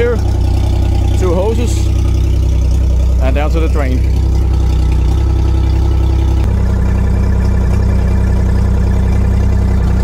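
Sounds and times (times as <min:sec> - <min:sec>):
outboard engine idling: 0:00.0 - 0:10.0.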